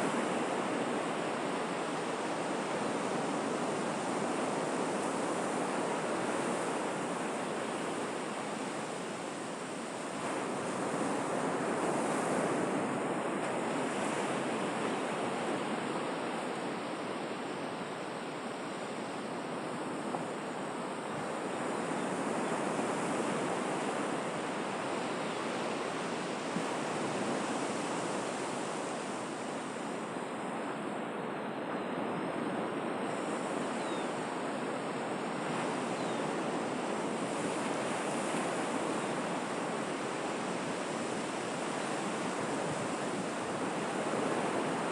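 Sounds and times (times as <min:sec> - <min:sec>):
waves breaking and washing: 0:00.0 - 0:44.9.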